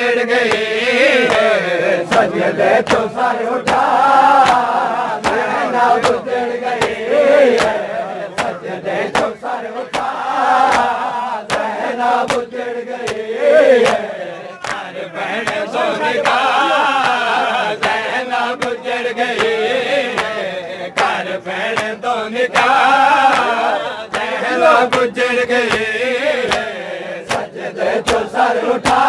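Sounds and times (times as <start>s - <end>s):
men chanting: 0.0s - 29.0s
chest-beating slaps: 0.4s - 18.0s, 18.6s - 29.0s.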